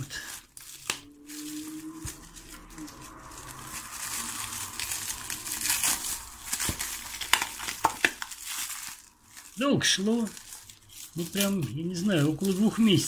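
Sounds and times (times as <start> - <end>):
plastic film crinkling: 0.0 - 13.0
sharp plastic crackles: 0.0 - 13.0.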